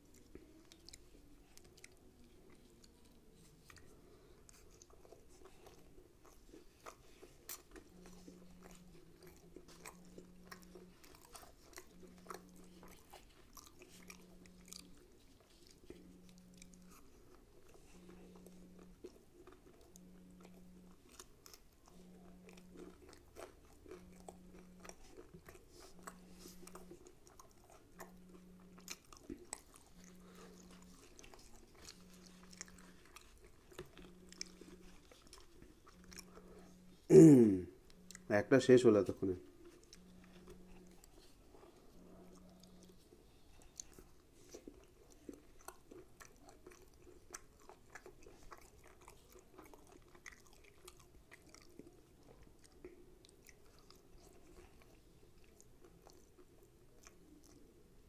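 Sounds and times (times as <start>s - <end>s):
chewing and biting food: 0.0s - 58.0s
faint pulsing low hum: 0.0s - 58.0s.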